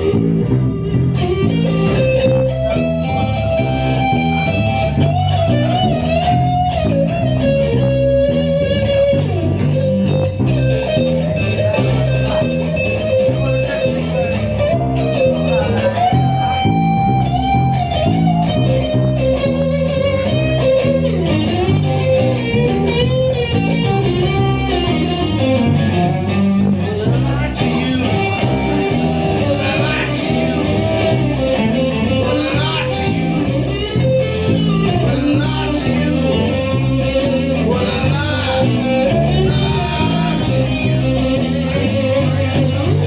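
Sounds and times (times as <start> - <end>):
bass line: 0.0 - 43.0
electric guitars playing blues: 0.0 - 43.0
lead guitar with pitch bends: 0.0 - 43.0.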